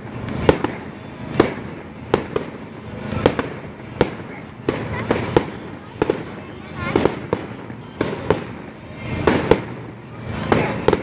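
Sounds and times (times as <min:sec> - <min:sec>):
fainter firework bursts: 0:00.0 - 0:11.0
firework shells bursting: 0:00.0 - 0:11.0.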